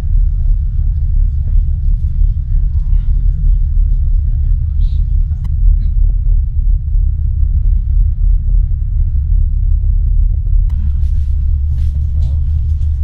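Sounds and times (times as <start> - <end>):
ferry engines rumbling: 0.0 - 9.7, 10.6 - 13.0.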